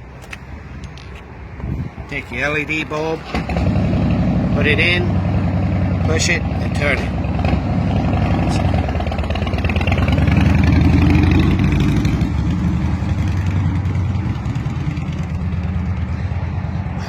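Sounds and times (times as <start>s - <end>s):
engine idling with low pulse: 0.0s - 17.0s.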